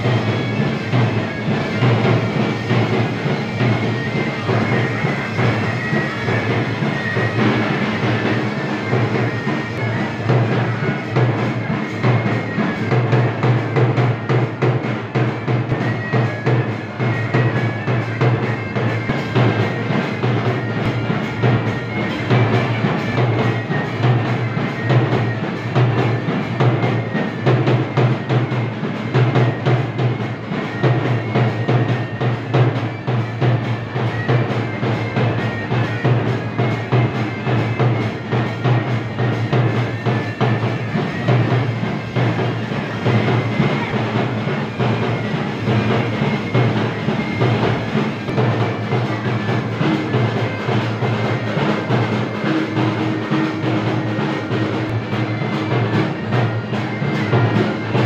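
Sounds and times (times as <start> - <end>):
drum beaten with a stick: 0.0 - 58.0.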